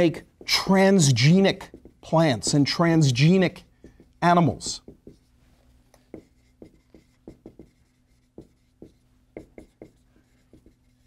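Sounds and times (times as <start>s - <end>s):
marker writing on a whiteboard: 0.0s - 5.4s, 6.0s - 11.0s.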